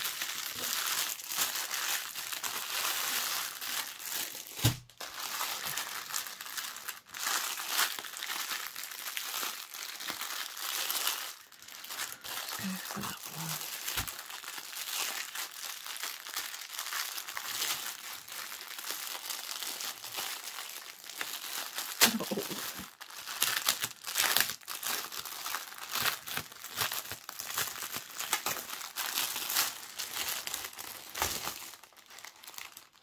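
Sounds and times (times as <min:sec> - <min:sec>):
plastic bags crinkling: 0:00.0 - 0:33.0.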